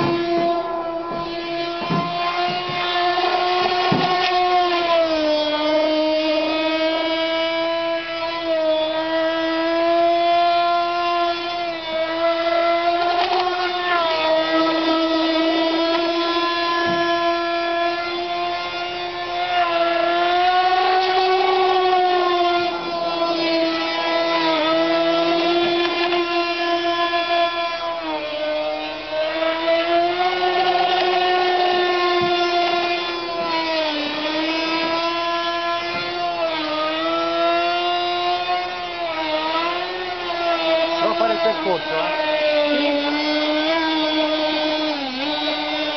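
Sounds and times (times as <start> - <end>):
model engine high-pitched whine: 0.0 - 45.9.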